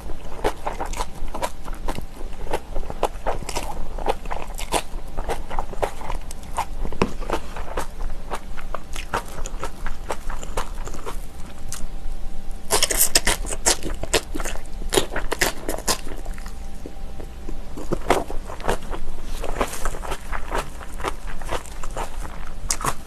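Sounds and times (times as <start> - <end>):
crunchy food chewing: 0.0 - 23.0.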